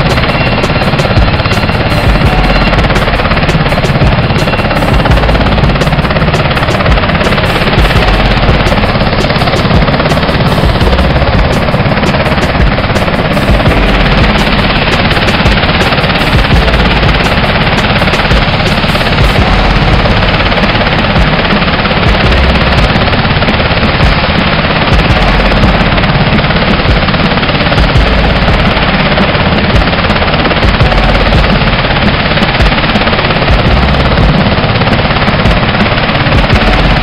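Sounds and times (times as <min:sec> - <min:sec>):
helicopter rotor noise: 0:00.0 - 0:37.0
wind buffeting microphone: 0:00.0 - 0:37.0.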